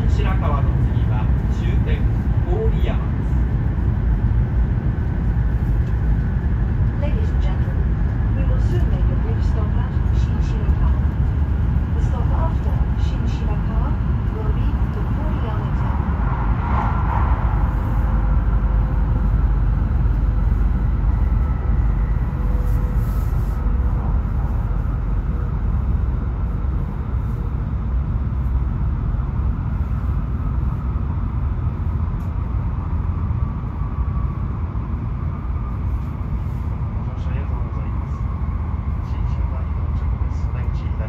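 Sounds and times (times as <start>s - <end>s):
air noise: 0.0s - 41.0s
train wheels rumbling on track: 0.0s - 41.0s.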